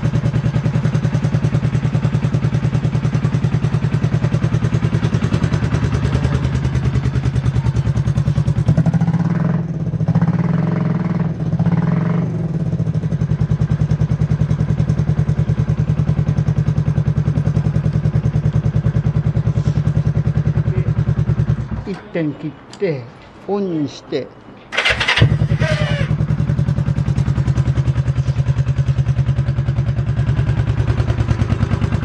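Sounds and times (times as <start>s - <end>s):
motorcycle engine idling: 0.0s - 10.6s, 11.2s - 22.0s, 24.7s - 32.0s.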